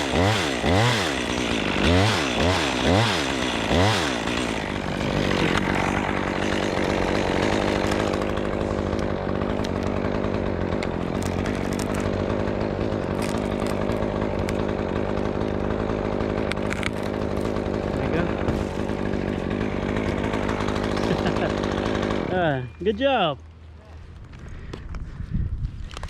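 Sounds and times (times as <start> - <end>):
chainsaw revving and cutting wood: 0.0 - 23.5.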